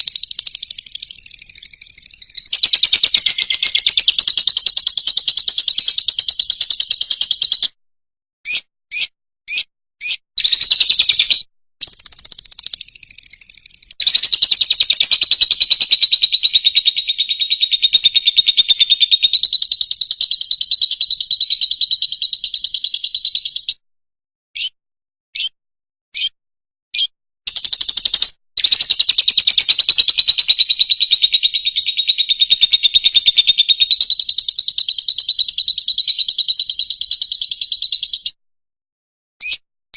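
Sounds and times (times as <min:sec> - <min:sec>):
lovebird chattering twitter: 0:00.0 - 0:07.7, 0:08.5 - 0:23.7, 0:27.0 - 0:38.3
short bird chirps: 0:00.0 - 0:07.8, 0:08.4 - 0:23.8, 0:24.5 - 0:38.4.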